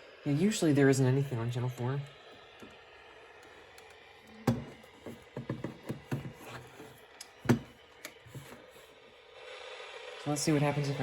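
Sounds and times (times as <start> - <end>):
faint radio static hiss: 0.0 - 11.0.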